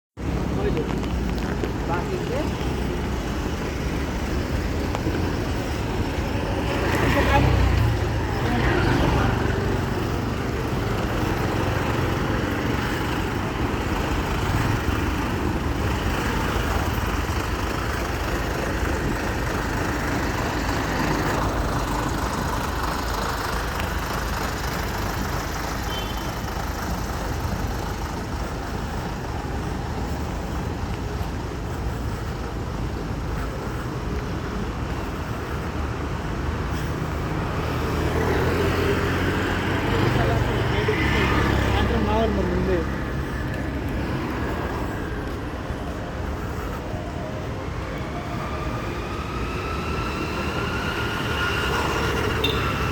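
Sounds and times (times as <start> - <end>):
road vehicle rumble: 0.1 - 52.9.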